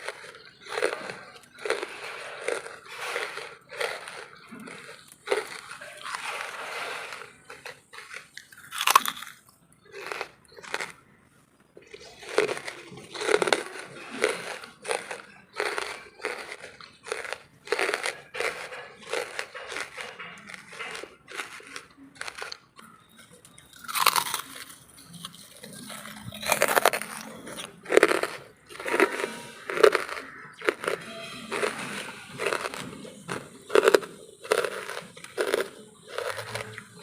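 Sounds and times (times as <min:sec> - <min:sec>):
chewing hard charcoal: 0:00.0 - 0:37.0.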